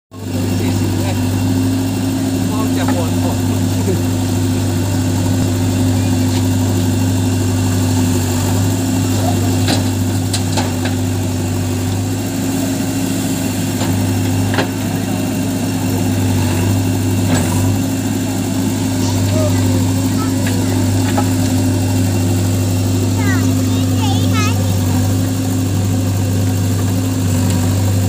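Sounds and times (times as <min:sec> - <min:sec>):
diesel engine running: 0:00.1 - 0:28.0.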